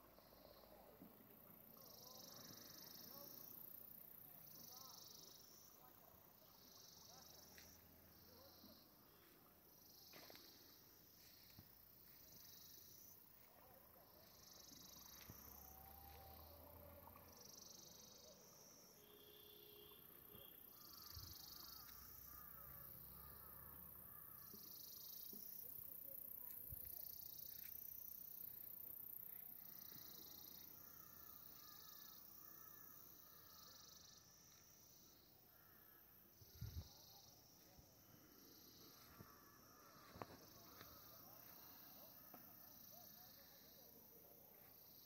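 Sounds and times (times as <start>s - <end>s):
faint insect chirping: 0.0s - 45.0s.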